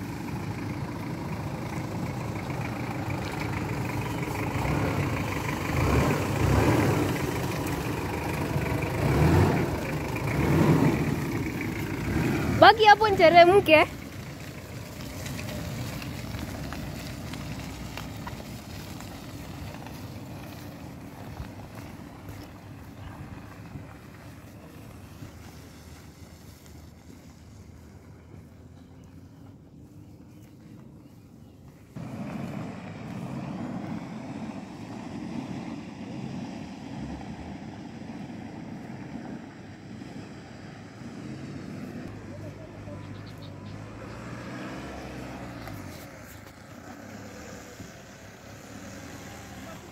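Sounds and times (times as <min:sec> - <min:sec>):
vehicle driving over dirt track: 0:00.0 - 0:49.9.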